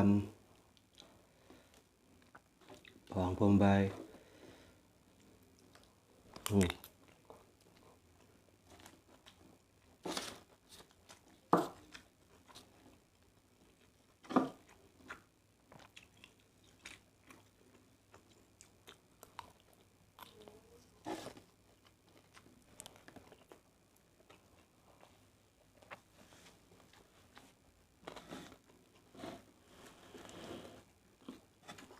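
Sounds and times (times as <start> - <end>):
close chewing food: 5.1 - 31.9.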